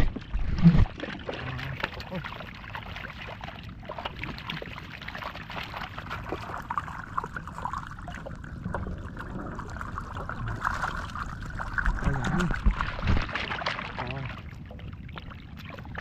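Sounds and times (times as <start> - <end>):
fish thrashing in water: 0.0 - 16.0
floodwater running: 0.0 - 16.0.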